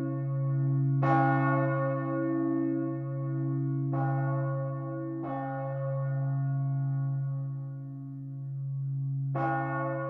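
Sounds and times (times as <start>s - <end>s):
church bell ringing: 0.0s - 10.0s.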